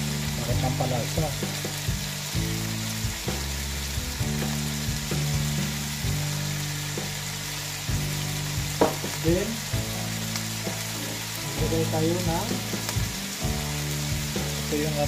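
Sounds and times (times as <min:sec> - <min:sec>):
meat and vegetables sizzling in a pan: 0:00.0 - 0:15.0.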